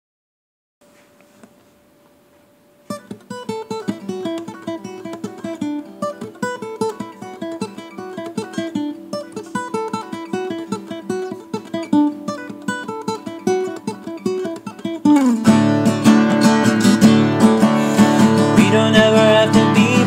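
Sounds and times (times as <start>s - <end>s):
acoustic guitar picking: 2.8s - 20.0s.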